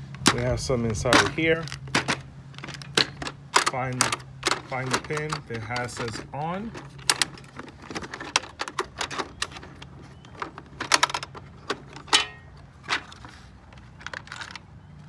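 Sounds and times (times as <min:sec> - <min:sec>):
small parts rattling in plastic box: 0:00.1 - 0:14.7.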